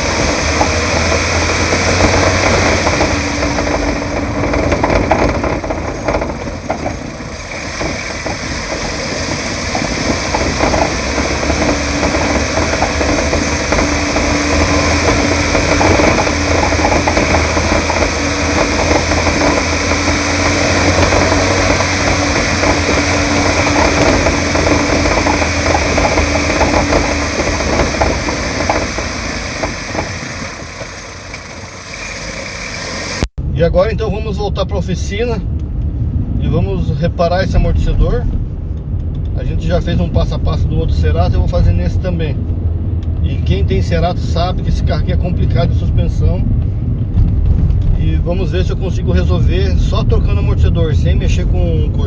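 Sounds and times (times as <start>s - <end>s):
suspension knocks and rattles: 0.0s - 33.3s, 37.3s - 52.0s
car engine and road noise: 0.0s - 52.0s.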